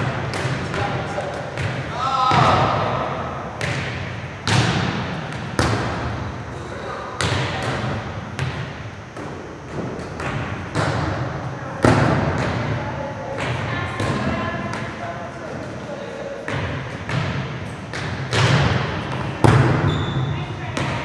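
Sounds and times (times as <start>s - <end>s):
volleyballs being hit: 0.0s - 15.0s, 16.4s - 20.0s
ball smacks echoing in gym: 0.0s - 15.8s, 16.4s - 21.0s.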